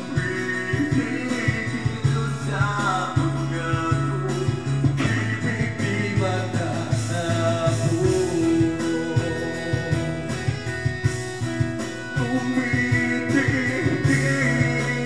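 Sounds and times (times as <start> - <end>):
man singing into a microphone: 0.0 - 11.1, 11.9 - 15.0
pop-rock backing track: 0.0 - 15.0.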